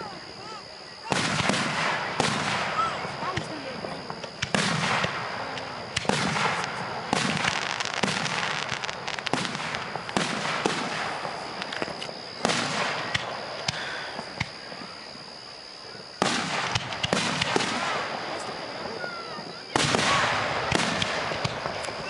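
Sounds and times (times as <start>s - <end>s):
fireworks bursting with rumble: 0.0s - 22.0s.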